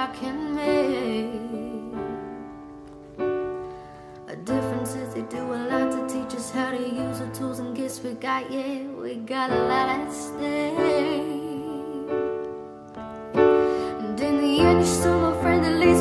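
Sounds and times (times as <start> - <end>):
woman singing: 0.0 - 2.6, 4.2 - 12.7, 13.4 - 16.0
piano: 0.0 - 16.0.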